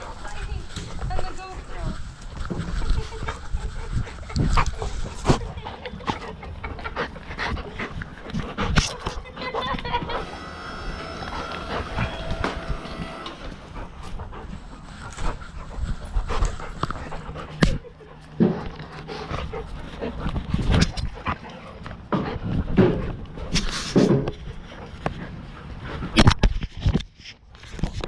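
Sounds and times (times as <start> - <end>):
dogs panting: 0.0 - 26.3.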